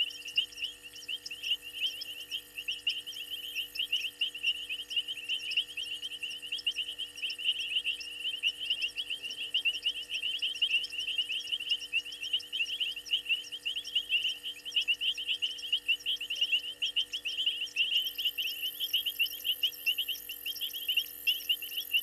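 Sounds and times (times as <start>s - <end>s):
frogs chirping: 0.0s - 22.0s
insects chirping: 0.0s - 22.0s.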